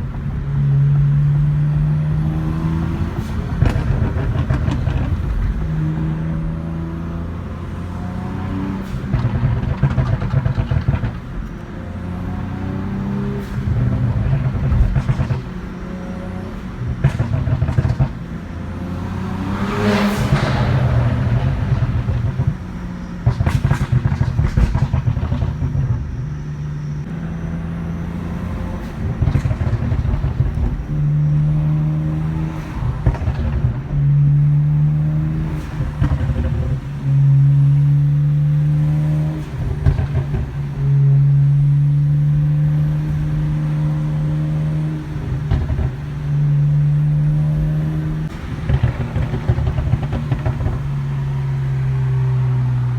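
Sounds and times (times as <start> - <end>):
car exhaust at steady revs: 0.0 - 52.9
exhaust crackles and pops: 2.9 - 6.6, 8.4 - 11.8, 12.8 - 18.7, 19.3 - 27.2, 28.8 - 52.9.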